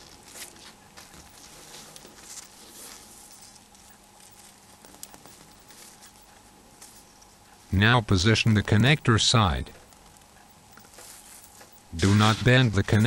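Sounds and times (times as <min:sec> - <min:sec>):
small tools scratching: 0:00.0 - 0:07.3, 0:08.1 - 0:13.0
low steady hum: 0:00.0 - 0:13.0.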